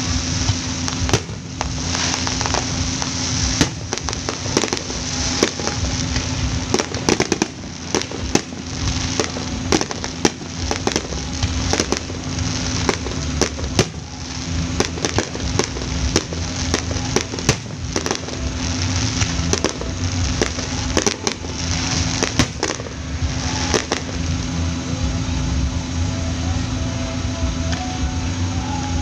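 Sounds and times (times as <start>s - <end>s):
firework shells bursting: 0.0s - 24.6s
continuous crackling hiss: 0.0s - 29.0s.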